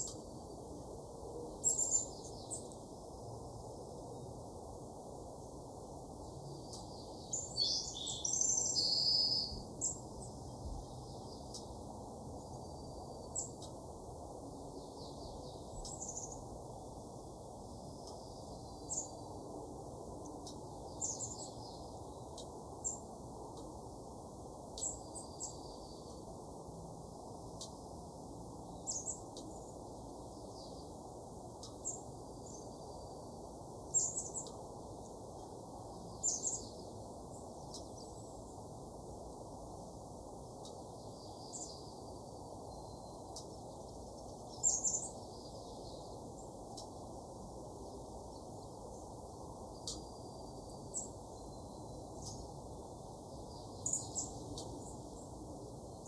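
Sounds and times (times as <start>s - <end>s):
small songbirds chirping: 0.0s - 56.0s
steady low background noise: 0.0s - 56.0s.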